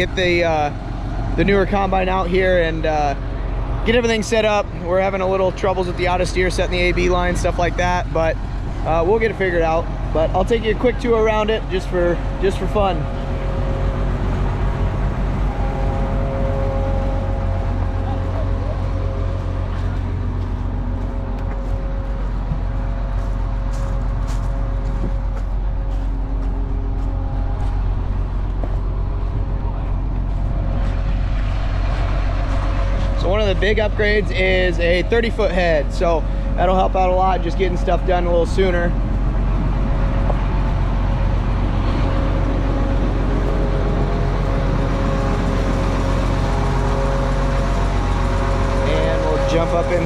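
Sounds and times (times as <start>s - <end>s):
diesel engine running: 0.0s - 50.0s
steady whine: 0.0s - 50.0s.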